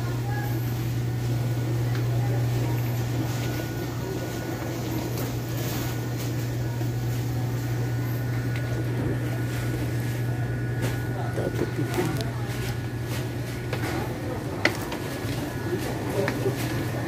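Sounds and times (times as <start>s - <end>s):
faint store noise: 0.0s - 17.0s
low machine hum: 0.0s - 17.0s.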